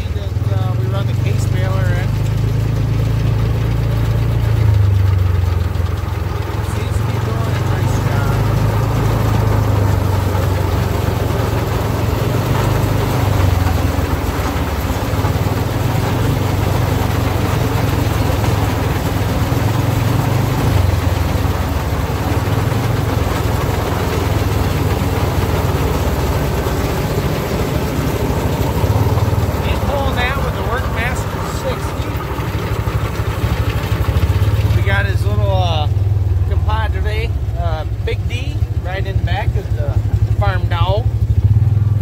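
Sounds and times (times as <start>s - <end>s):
tractor engine droning: 0.0s - 42.0s.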